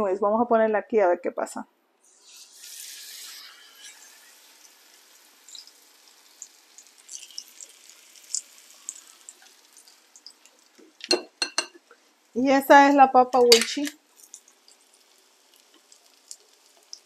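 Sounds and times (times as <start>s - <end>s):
batter sizzling in hot oil: 2.0s - 12.4s, 13.6s - 17.0s.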